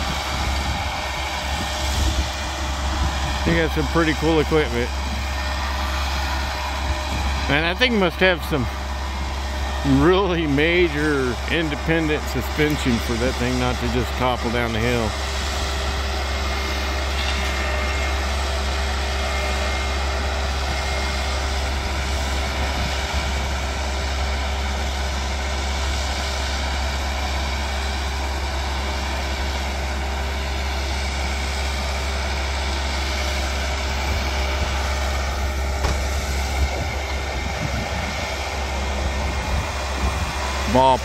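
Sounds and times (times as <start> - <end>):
machine engine droning: 0.0 - 41.0.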